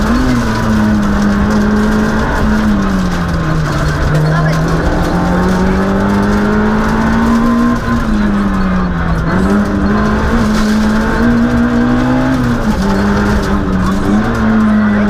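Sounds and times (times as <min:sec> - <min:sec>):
rally car engine running hard: 0:00.0 - 0:15.0.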